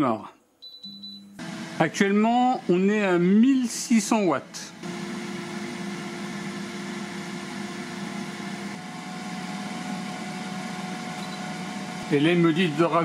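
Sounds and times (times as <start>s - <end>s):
air fryer fan whirring: 1.4s - 13.0s.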